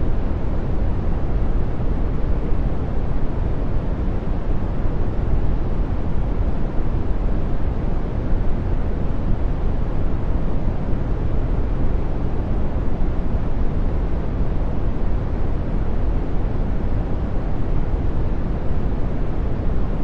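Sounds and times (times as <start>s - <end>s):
brown noise: 0.0s - 20.0s.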